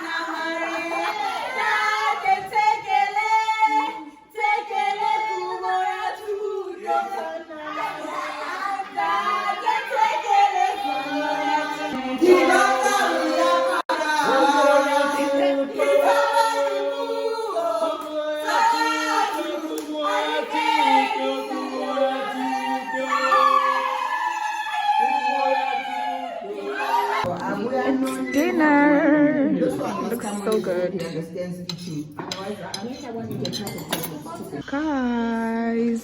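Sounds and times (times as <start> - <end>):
group of voices singing: 0.0 - 30.8.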